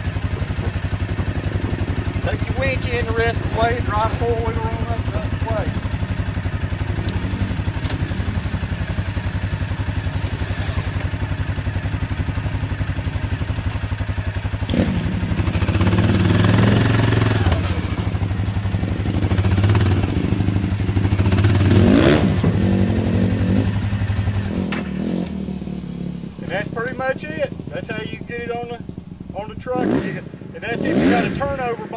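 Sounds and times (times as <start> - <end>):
atv engine idling and revving: 0.0 - 31.9.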